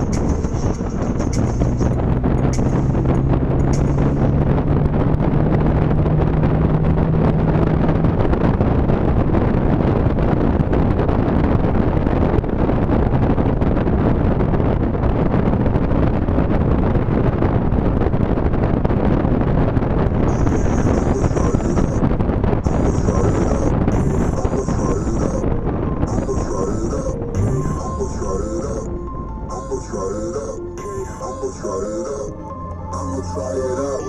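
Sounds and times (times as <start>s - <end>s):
wind buffeting through car window: 0.0s - 30.1s
low steady hum: 0.0s - 34.0s
road and engine noise: 0.0s - 34.0s.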